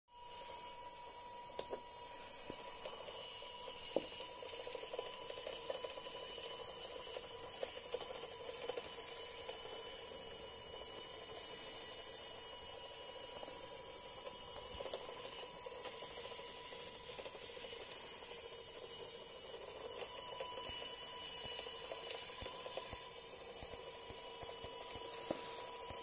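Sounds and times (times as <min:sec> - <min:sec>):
small electric motor whirring: 0:00.2 - 0:26.0.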